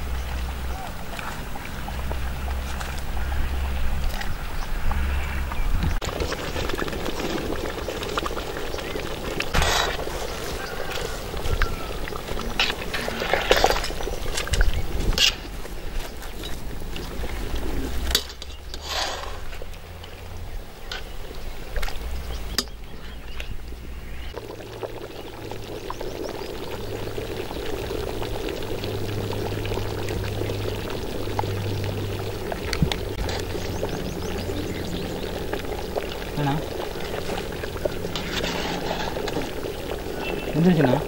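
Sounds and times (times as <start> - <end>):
curry bubbling in a pot: 6.0 - 41.0.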